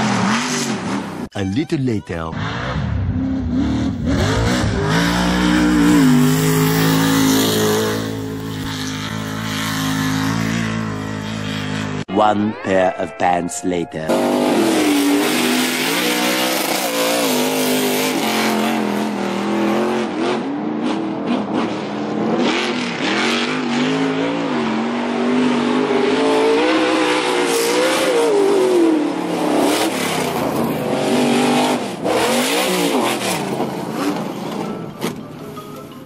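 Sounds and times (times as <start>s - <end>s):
truck engine revving: 2.3s - 12.1s, 14.1s - 34.8s.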